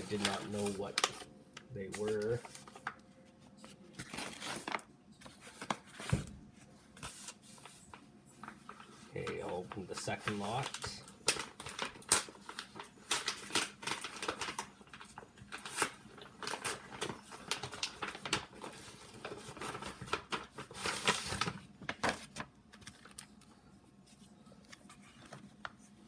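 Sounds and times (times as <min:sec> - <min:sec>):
packaging and comics crinkling: 0:00.0 - 0:06.2, 0:07.1 - 0:26.0.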